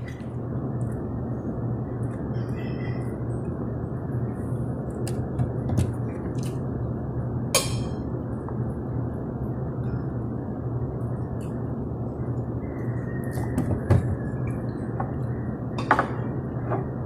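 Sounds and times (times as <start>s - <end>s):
restaurant hum: 0.0s - 17.0s.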